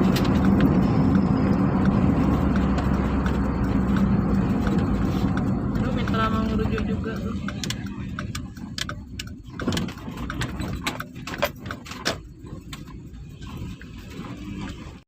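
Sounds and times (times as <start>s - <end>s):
sharp clicks and knocks: 0.0s - 14.8s
motor vehicle rumble: 0.0s - 15.0s.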